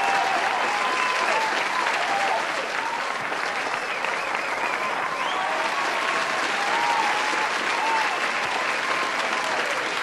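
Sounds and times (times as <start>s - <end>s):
crowd clapping: 0.0s - 10.0s.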